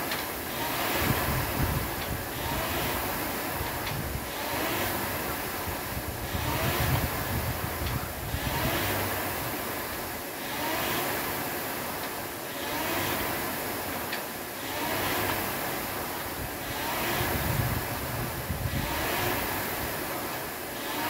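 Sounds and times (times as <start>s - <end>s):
rowing machine fan flywheel whooshing: 0.0s - 21.0s.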